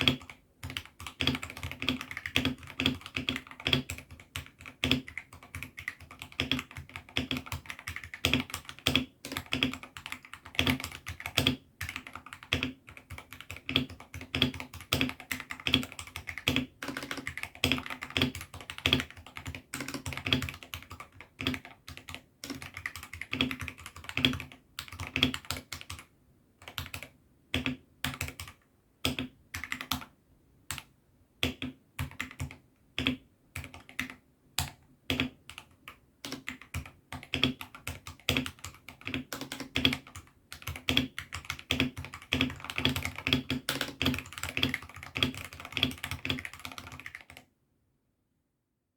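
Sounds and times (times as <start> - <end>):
mechanical keyboard typing: 0.0 - 30.1, 30.7 - 47.4.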